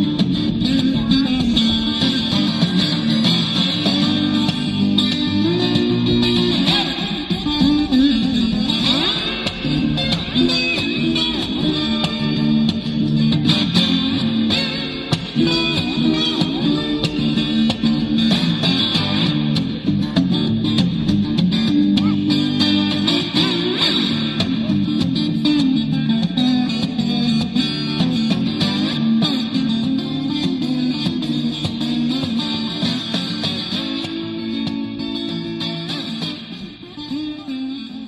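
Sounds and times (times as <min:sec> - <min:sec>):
bass: 0:00.0 - 0:38.0
guitar: 0:00.0 - 0:38.0.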